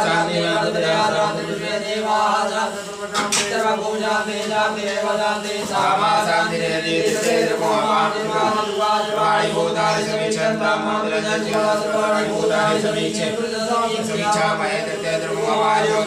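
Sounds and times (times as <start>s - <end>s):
men chanting mantras: 0.0s - 16.0s.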